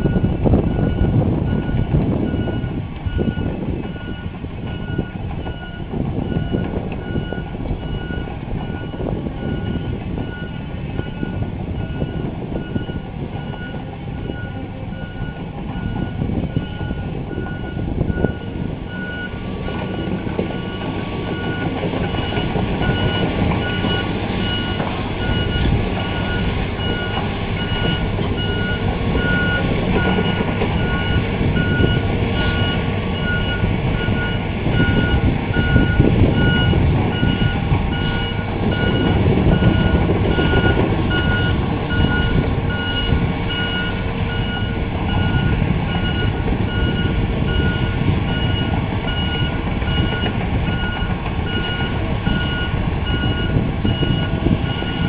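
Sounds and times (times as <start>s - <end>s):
backup alarm beeping: 0.0s - 55.0s
excavator engine and tracks: 0.0s - 55.0s.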